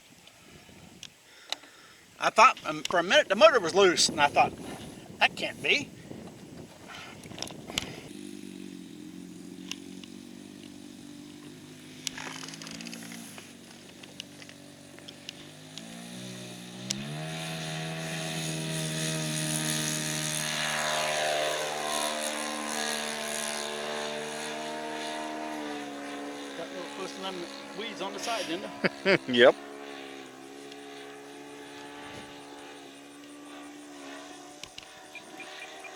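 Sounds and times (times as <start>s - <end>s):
model airplane propeller motor: 0.0s - 35.9s.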